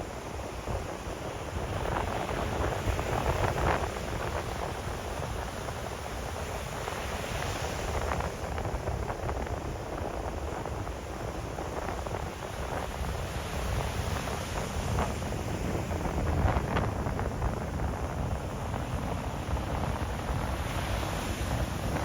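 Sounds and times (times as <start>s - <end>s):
waves breaking ashore: 0.0s - 22.0s
wind rumble on microphone: 0.0s - 22.0s.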